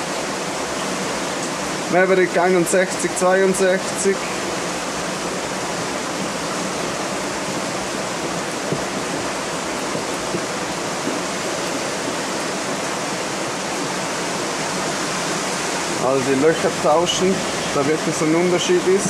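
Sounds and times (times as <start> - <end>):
storm rushing: 0.0 - 19.0.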